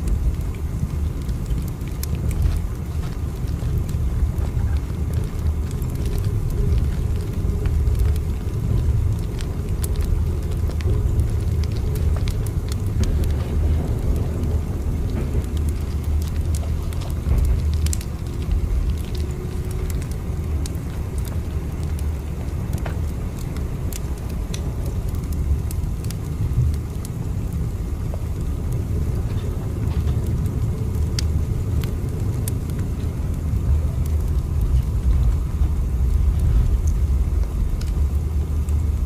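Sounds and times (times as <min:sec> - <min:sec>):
moving train rumble: 0:00.0 - 0:39.0.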